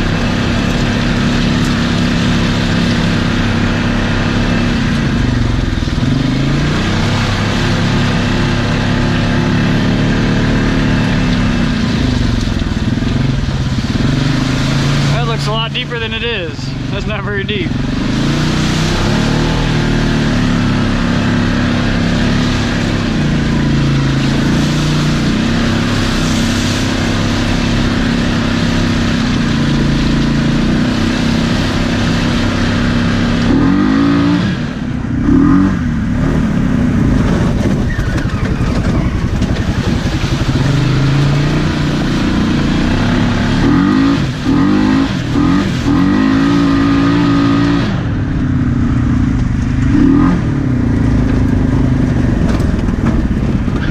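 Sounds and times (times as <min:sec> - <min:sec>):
utility vehicle engine revving: 0:00.0 - 0:53.9.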